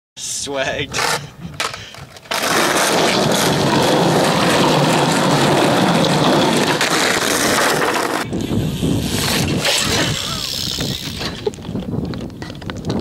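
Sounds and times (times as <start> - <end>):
skateboard wheels rolling on asphalt: 1.0 - 13.0.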